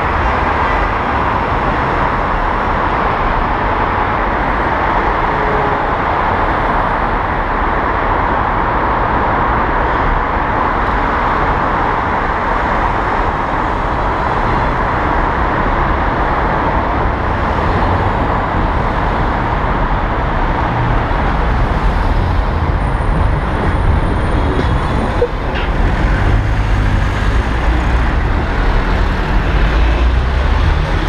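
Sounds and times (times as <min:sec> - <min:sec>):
road and traffic rumble: 0:00.0 - 0:31.0.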